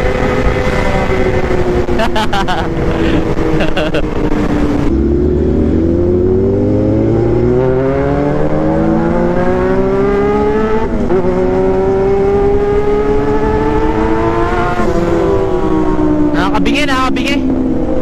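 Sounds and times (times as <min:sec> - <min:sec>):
motorcycle engine accelerating hard: 0:00.0 - 0:18.0.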